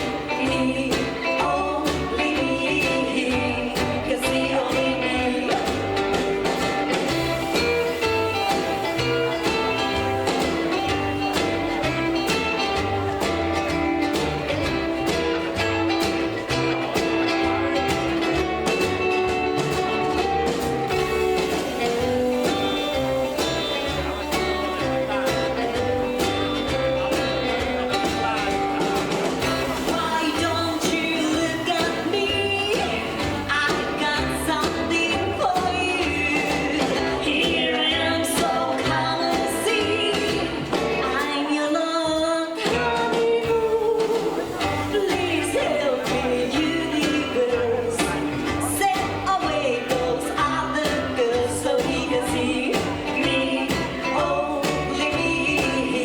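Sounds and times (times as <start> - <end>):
steady drum beat: 0.0 - 41.6, 42.6 - 56.0
bass line: 0.0 - 56.0
guitar: 0.0 - 56.0
person singing: 0.0 - 56.0.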